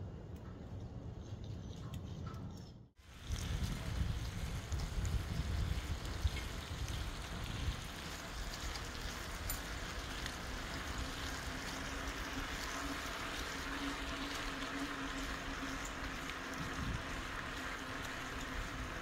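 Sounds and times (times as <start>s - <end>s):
wind rumbling on microphone: 0.8s - 19.0s.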